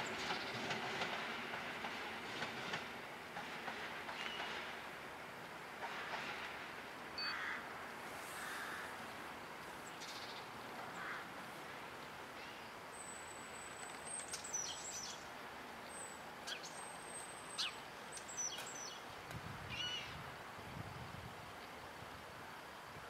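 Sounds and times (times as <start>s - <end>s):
faint background noise: 0.0s - 23.0s.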